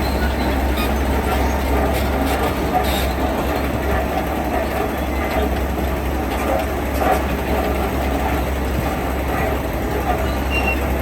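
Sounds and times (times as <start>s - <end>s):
continuous mechanical noise: 0.0s - 11.0s
diesel machinery rumbling: 0.0s - 11.0s.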